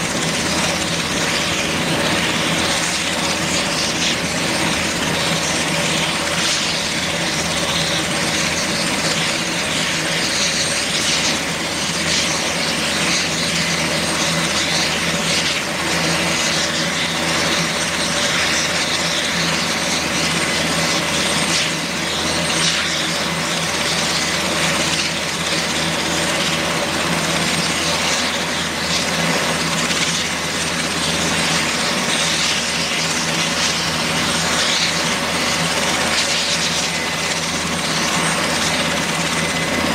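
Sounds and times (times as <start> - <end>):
helicopter running on ground: 0.0 - 39.9.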